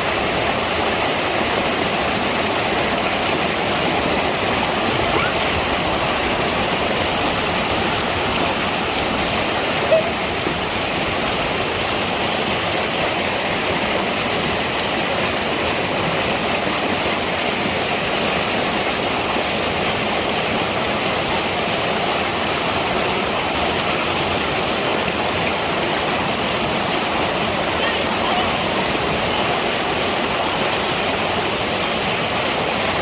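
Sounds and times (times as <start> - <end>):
stream rushing: 0.0 - 33.0.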